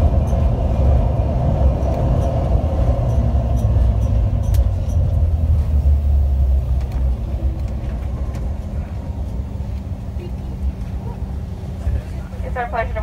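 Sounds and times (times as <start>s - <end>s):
low rumble inside jet cabin: 0.0s - 13.0s.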